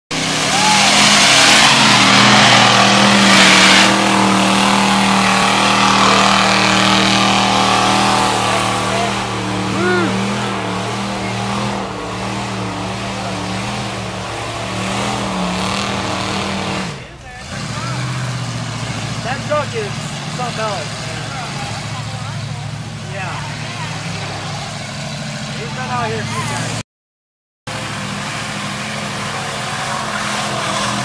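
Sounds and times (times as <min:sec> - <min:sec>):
spinning tyres flinging mud: 0:00.1 - 0:26.7, 0:27.7 - 0:31.0
truck engine droning: 0:00.1 - 0:26.8, 0:27.7 - 0:31.0.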